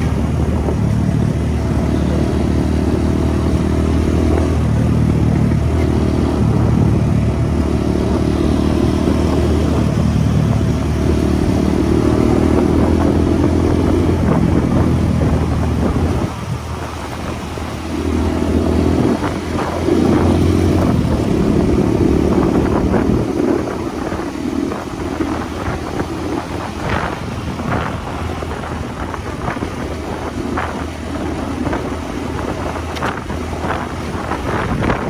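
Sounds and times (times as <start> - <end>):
motorcycle engine running: 0.0 - 35.0
road and wind noise: 0.0 - 35.0.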